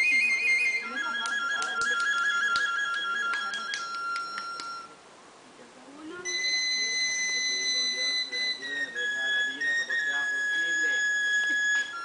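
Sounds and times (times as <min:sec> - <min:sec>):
flute-like wind instrument: 0:00.0 - 0:05.0, 0:06.2 - 0:12.0.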